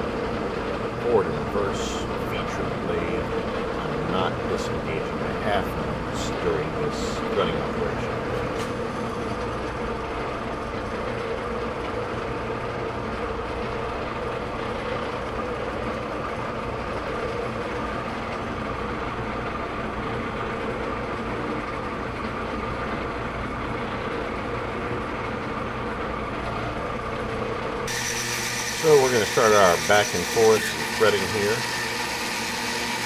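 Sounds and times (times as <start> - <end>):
metal lathe humming: 0.0 - 33.0.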